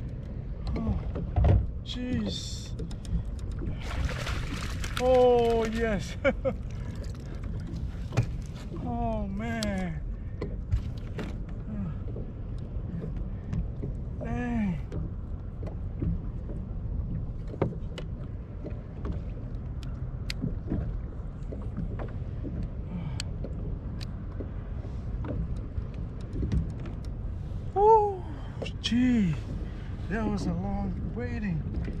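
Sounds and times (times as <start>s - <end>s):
water lapping against hull: 0.0s - 32.0s.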